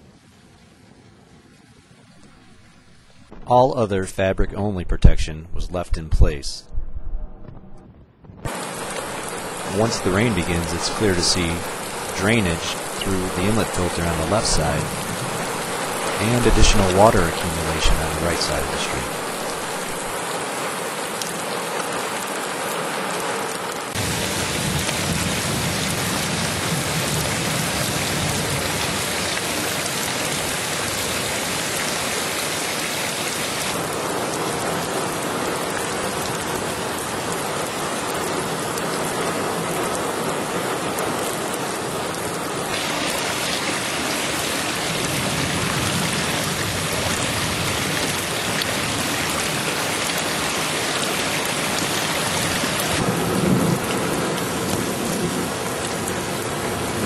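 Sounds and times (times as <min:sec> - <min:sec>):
heavy rain falling: 0:08.5 - 0:57.0.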